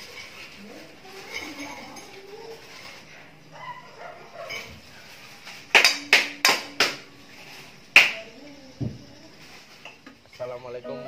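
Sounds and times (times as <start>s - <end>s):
noodles scraping and clinking: 0.0s - 10.7s.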